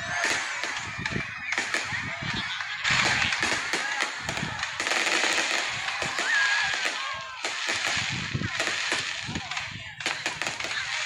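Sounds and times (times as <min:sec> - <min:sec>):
fireworks crackling: 0:00.0 - 0:11.0
fireworks low booms: 0:00.0 - 0:11.0.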